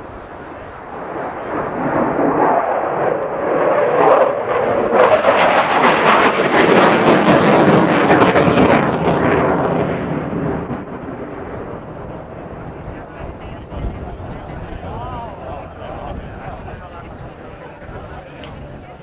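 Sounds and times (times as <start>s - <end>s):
jet engine roar passing: 0.0s - 19.0s.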